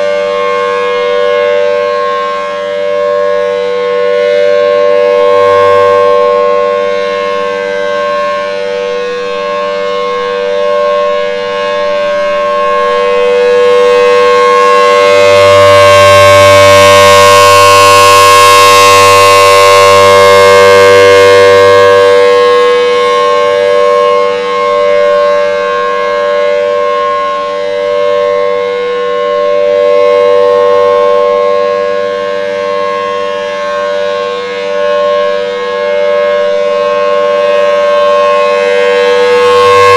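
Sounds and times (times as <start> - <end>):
warning siren two-tone wail: 0.0 - 39.9.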